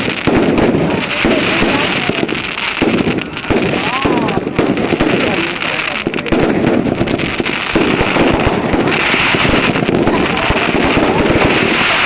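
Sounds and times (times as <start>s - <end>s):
fireworks crackling and banging: 0.0s - 12.0s
fireworks fizzing hiss: 0.0s - 12.0s.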